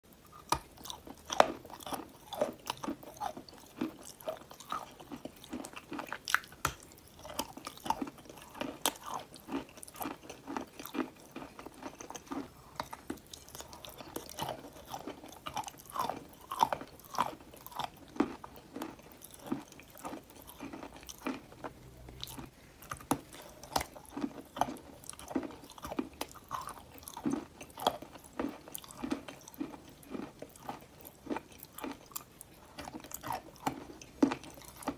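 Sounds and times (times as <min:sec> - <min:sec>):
crunchy biting and chewing: 0:00.1 - 0:34.9.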